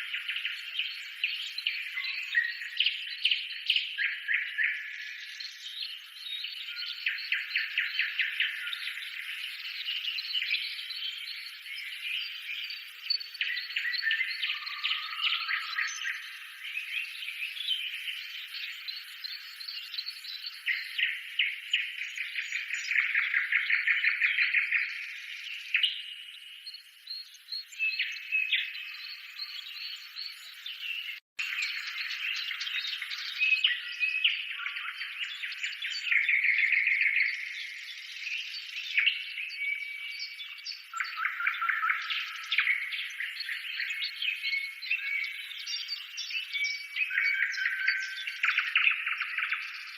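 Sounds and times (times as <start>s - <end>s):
birds chirping and trilling: 0.0s - 49.9s.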